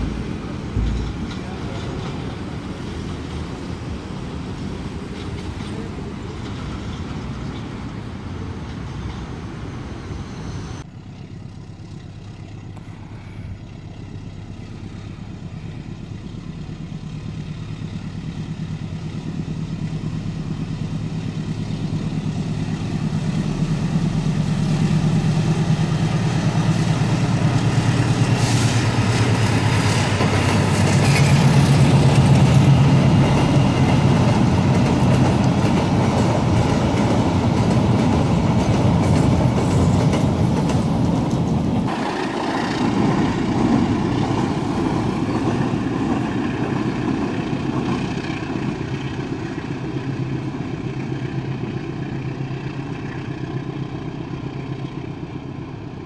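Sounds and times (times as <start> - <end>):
diesel locomotive engine drone: 0.0 - 56.0
road traffic: 0.0 - 56.0.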